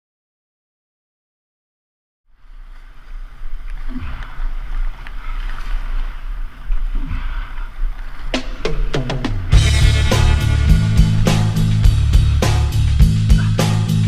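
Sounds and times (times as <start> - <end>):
water rushing and splashing: 2.4 - 14.0
wind buffeting microphone: 2.4 - 14.0.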